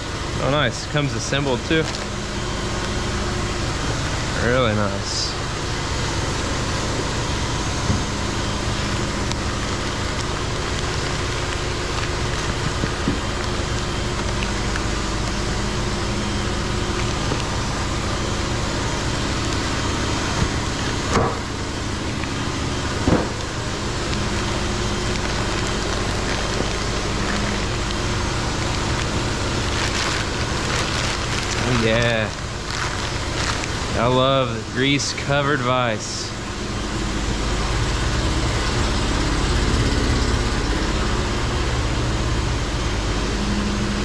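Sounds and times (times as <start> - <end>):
milling machine humming: 0.0 - 44.0.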